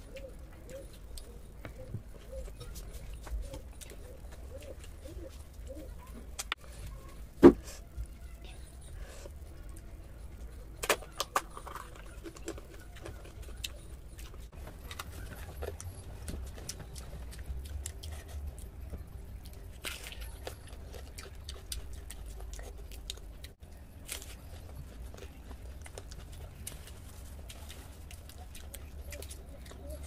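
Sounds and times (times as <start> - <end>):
crunching and chewing pastry: 0.0 - 30.0.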